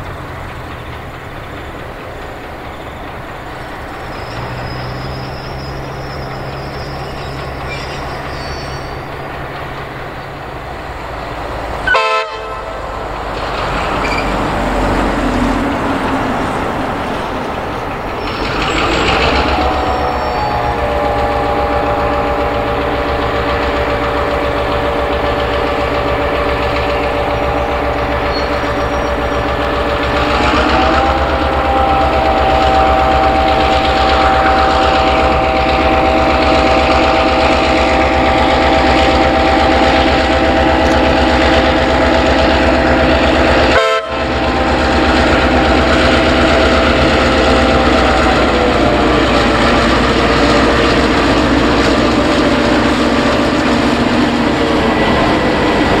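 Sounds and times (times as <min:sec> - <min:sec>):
diesel locomotive running: 0:00.0 - 0:56.0.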